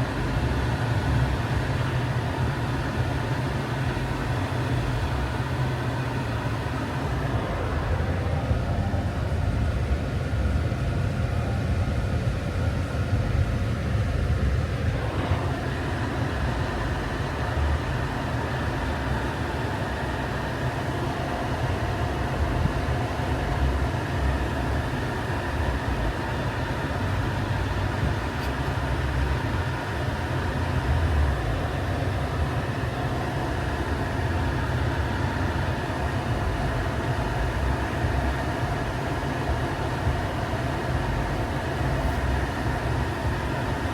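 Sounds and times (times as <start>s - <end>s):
road and engine rumble in car: 0.0s - 43.9s.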